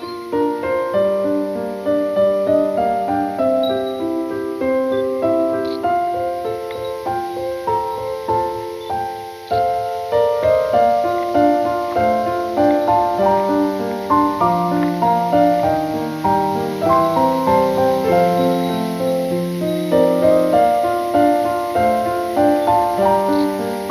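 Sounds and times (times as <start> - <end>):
slow piano music: 0.0 - 23.9.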